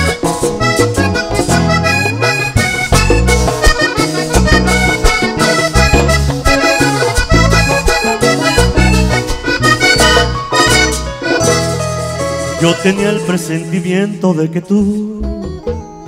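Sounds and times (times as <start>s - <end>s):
button accordion melody: 0.0s - 14.6s
caja drum: 0.0s - 16.0s
electric bass: 0.0s - 16.0s.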